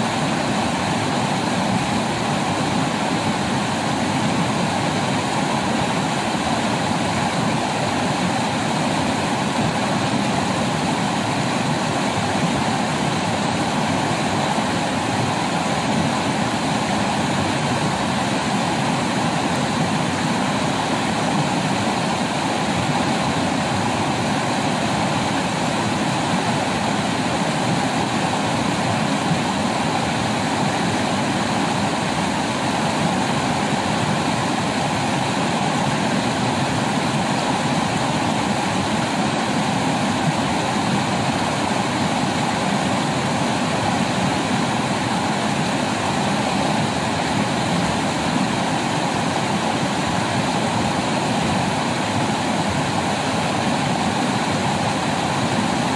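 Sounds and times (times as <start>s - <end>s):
stream rushing over rapids: 0.0s - 55.9s.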